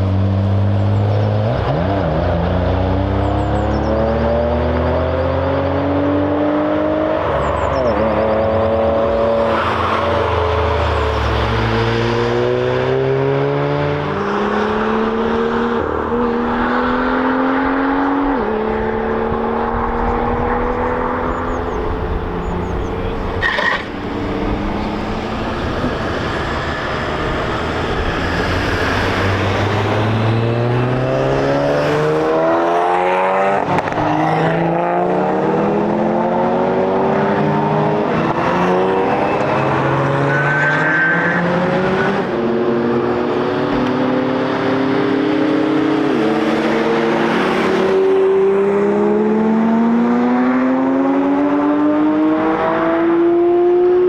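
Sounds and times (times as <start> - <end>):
race cars accelerating past: 0.0 - 54.0.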